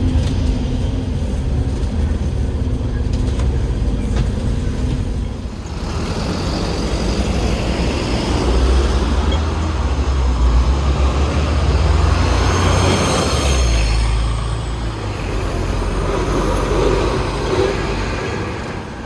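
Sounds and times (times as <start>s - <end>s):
bus diesel engine rumble: 0.0s - 19.0s
road noise: 0.0s - 19.0s.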